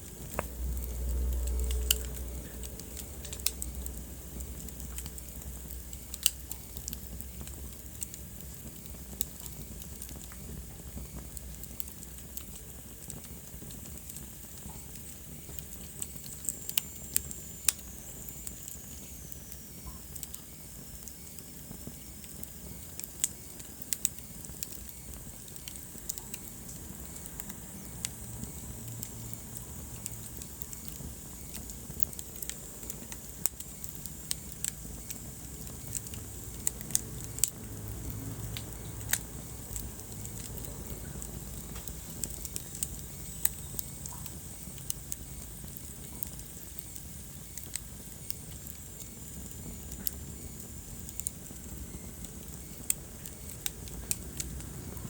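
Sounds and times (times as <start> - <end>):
fire crackling and popping: 0.0 - 55.0
low rush of flame: 0.0 - 55.0.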